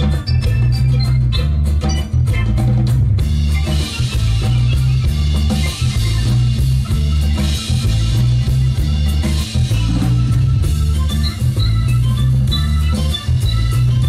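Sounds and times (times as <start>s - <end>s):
bass line: 0.0s - 14.0s
live band playing: 0.0s - 14.0s.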